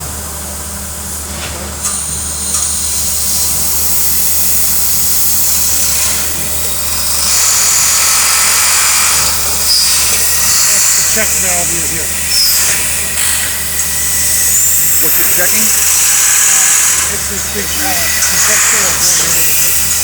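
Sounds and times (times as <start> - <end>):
low machinery hum: 0.0 - 20.0
compressed air hissing: 1.0 - 20.0.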